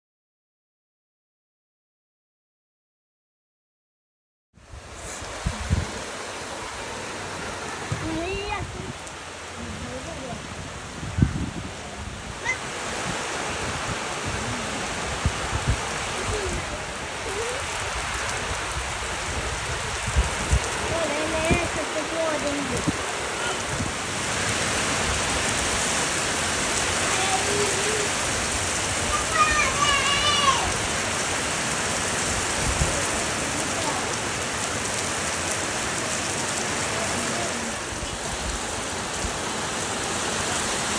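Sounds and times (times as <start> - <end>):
heavy rain falling: 4.6 - 40.9.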